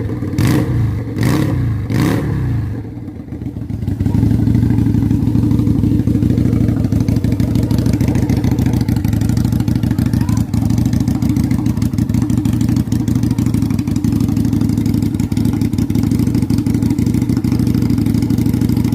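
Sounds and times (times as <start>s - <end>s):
scooter engine revving: 0.0s - 18.9s.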